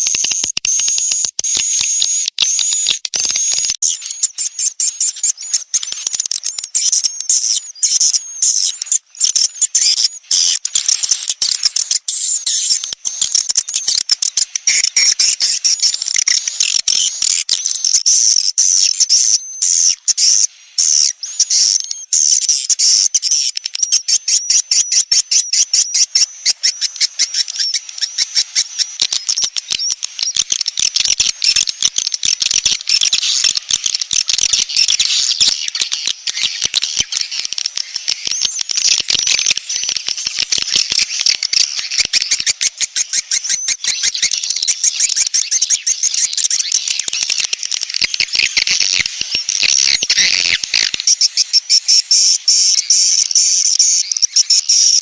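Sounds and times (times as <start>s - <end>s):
swiftlets twittering and chirping: 0.0s - 55.0s.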